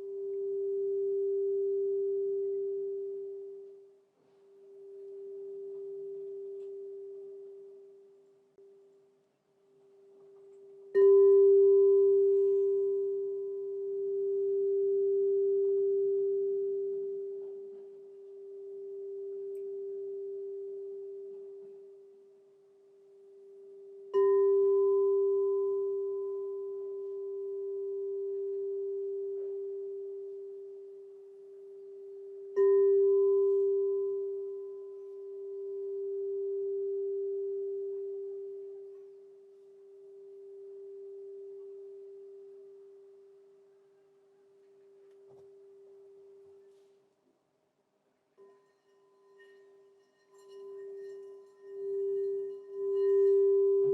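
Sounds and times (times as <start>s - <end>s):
crystal singing bowl ringing: 0.0s - 4.0s, 4.6s - 8.2s, 10.2s - 43.7s, 48.4s - 53.9s.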